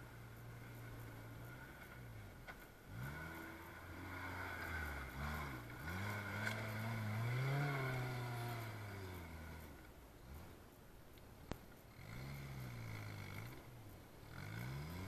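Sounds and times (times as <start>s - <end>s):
engine revving: 0.0s - 10.7s, 11.9s - 15.0s
wheels spinning throwing dirt: 0.0s - 10.7s, 11.8s - 15.0s.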